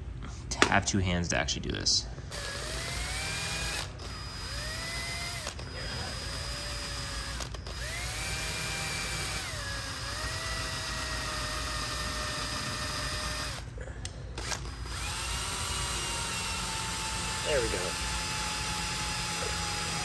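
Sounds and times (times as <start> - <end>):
rotary tool motor whining: 2.3 - 13.8, 14.4 - 20.0.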